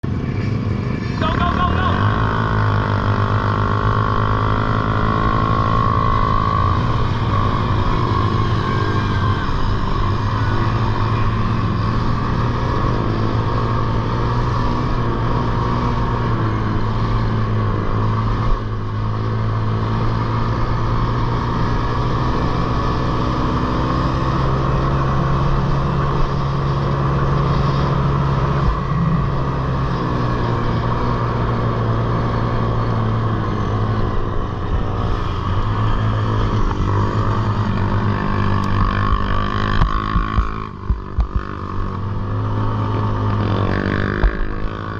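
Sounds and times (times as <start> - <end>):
small atv engines running: 0.1 - 44.9.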